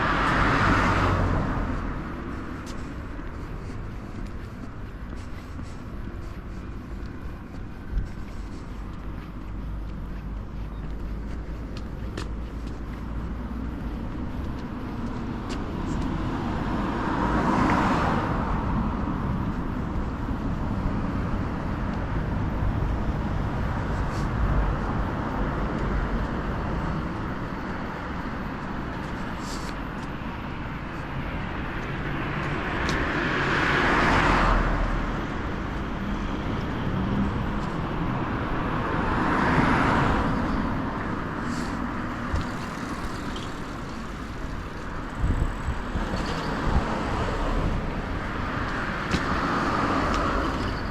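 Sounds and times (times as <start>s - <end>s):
steady traffic hum: 0.0s - 50.9s
vehicles passing close by: 0.0s - 50.9s.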